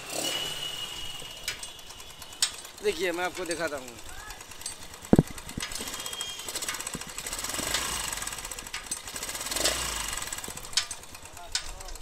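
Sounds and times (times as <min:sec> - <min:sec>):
engine metallic clatter: 0:00.0 - 0:12.0.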